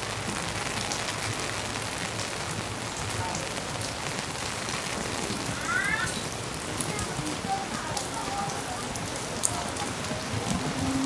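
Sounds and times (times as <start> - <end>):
rain falling on street: 0.0 - 11.0.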